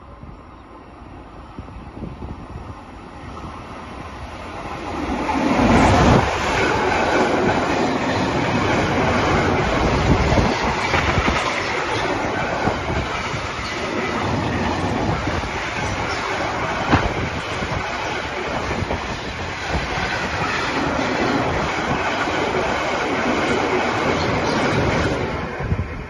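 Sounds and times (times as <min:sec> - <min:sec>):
electric locomotive passing: 0:00.0 - 0:26.0.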